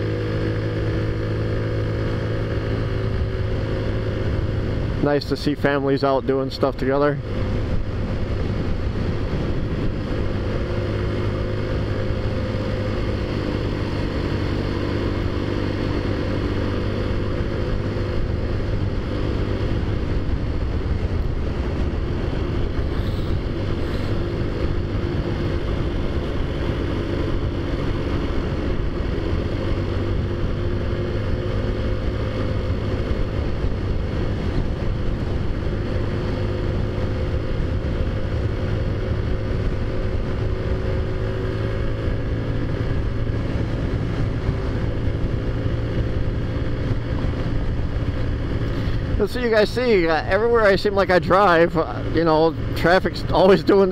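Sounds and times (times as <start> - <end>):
scooter engine running steadily: 0.0 - 53.9.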